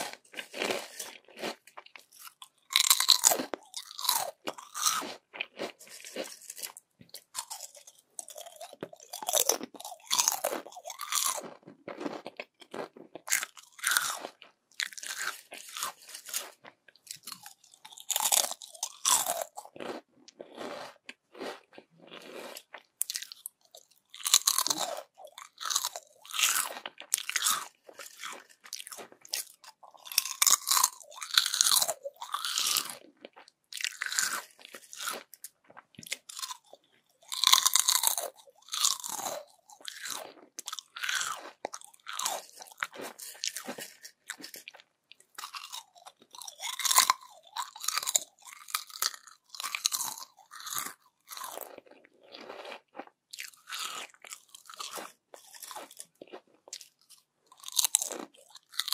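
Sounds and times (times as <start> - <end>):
crunching chips: 0.0 - 58.9.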